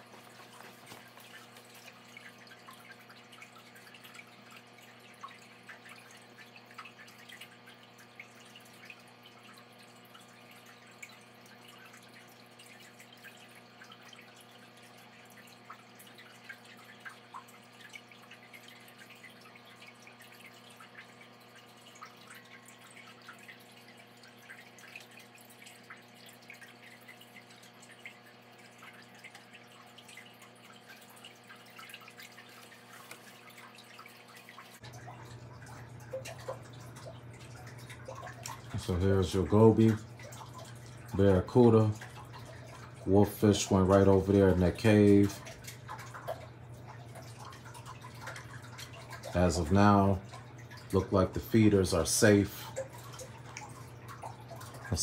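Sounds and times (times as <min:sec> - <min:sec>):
small water splashes: 0:00.0 - 0:55.0
water dripping: 0:00.0 - 0:55.0.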